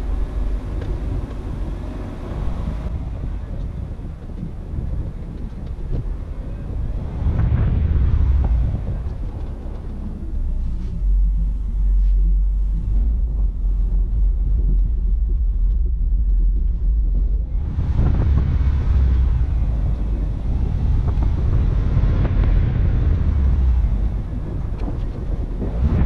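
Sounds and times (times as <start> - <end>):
car driving rumble: 0.0 - 26.0
wind buffeting microphone: 0.0 - 26.0.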